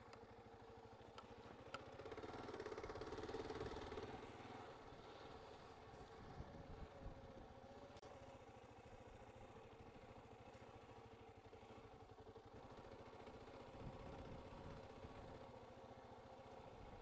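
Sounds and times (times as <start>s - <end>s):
faint motorcycle engine: 0.0s - 17.0s.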